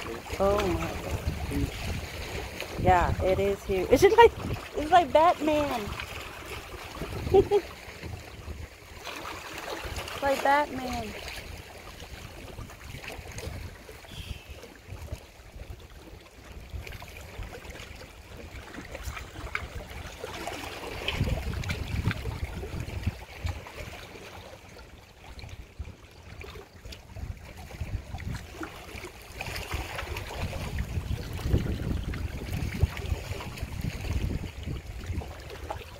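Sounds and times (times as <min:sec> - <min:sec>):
wind rumble on microphone: 0:00.0 - 0:08.9, 0:10.2 - 0:24.0, 0:25.2 - 0:35.9
waves lapping against rocks: 0:00.0 - 0:35.9.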